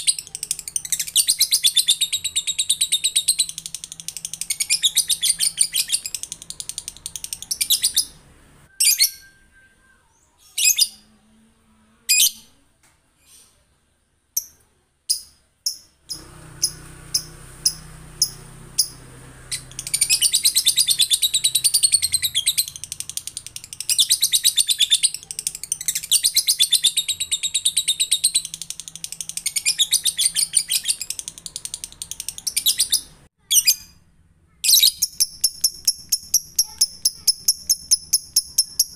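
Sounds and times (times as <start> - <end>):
lovebird chirping and trilling: 0.0 - 11.2, 12.0 - 12.6, 14.4 - 34.0, 34.6 - 38.9.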